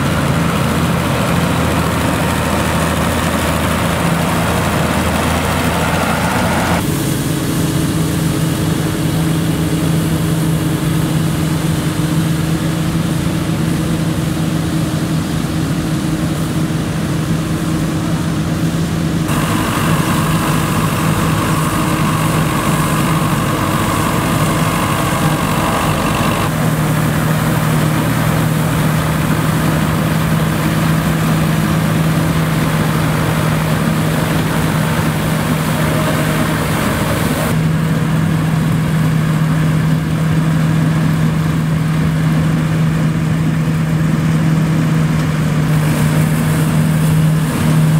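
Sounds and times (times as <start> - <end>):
combine harvester machinery: 0.0 - 47.9
tractor engines under load: 0.0 - 47.9.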